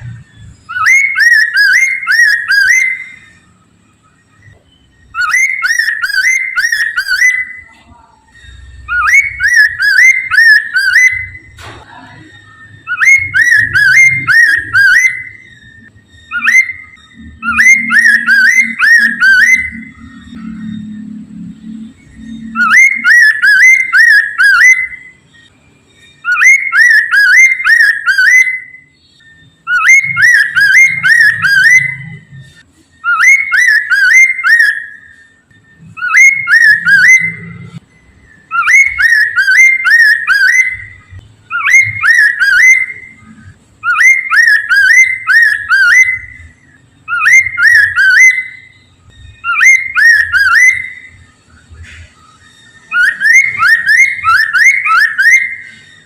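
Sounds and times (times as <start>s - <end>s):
bird singing whistled song: 0.0s - 56.0s.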